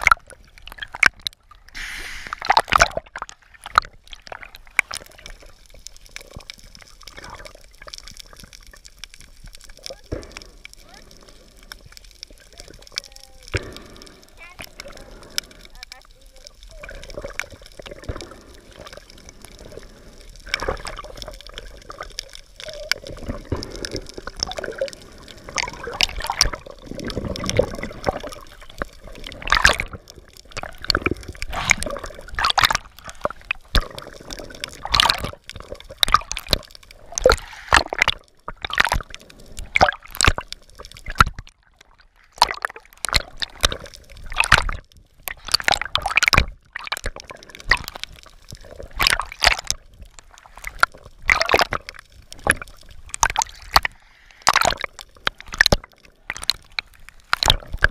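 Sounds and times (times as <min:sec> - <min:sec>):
water splashing and gurgling: 0:00.0 - 0:57.9.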